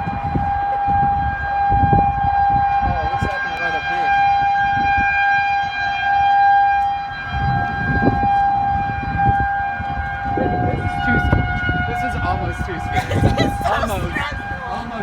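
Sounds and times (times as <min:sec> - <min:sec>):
warning siren steady tone: 0:00.0 - 0:15.0
wind rumbling on microphone: 0:00.0 - 0:15.0.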